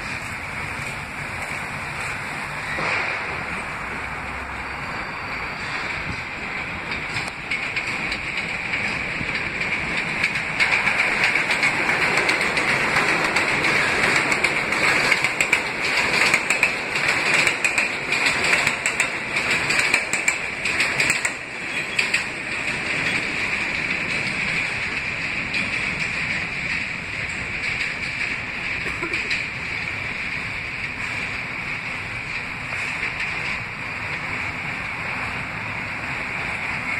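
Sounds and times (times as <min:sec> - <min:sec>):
train wheels rumbling on rails: 0:00.0 - 0:36.9
clicks over rail joints: 0:05.6 - 0:36.9.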